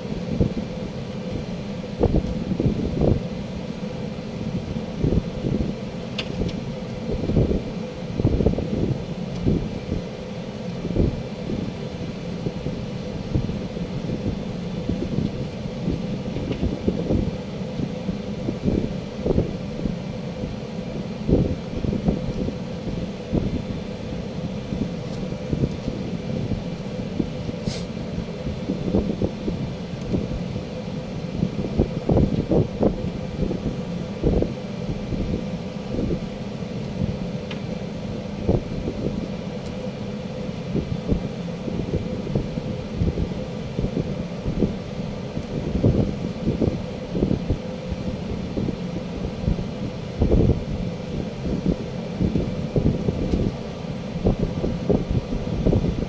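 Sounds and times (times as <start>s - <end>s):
steady low rumble: 0.0s - 56.0s
wind buffeting microphone: 0.0s - 56.0s.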